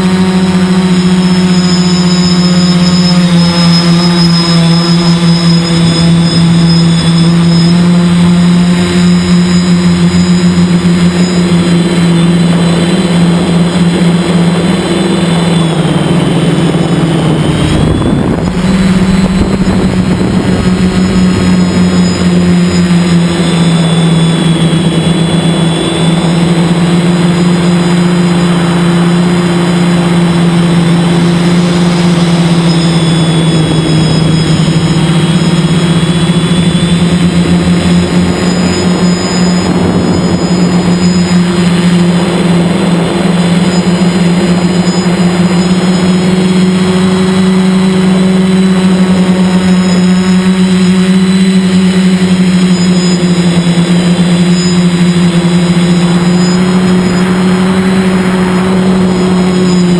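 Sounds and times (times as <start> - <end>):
quadcopter motors humming: 0.0 - 59.9.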